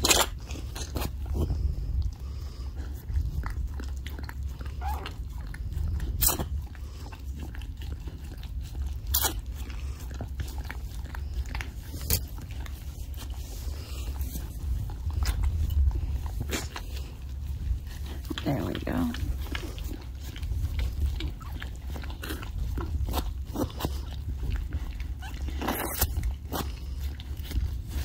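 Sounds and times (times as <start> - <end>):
dog licking and chewing: 0.0 - 28.0
steady low rumble: 0.0 - 28.0.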